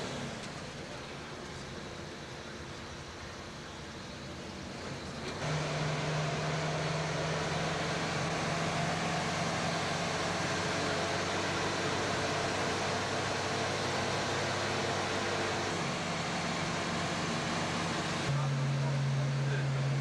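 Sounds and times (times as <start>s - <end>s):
low engine hum: 0.0s - 20.0s
road noise rushing: 0.0s - 20.0s.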